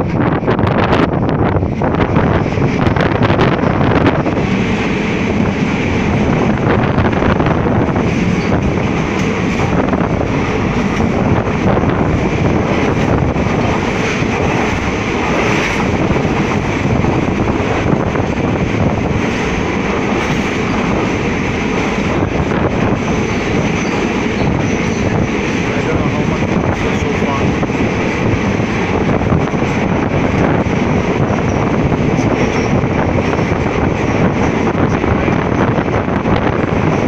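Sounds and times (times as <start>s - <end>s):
train wheels on rails in tunnel: 0.0s - 37.0s.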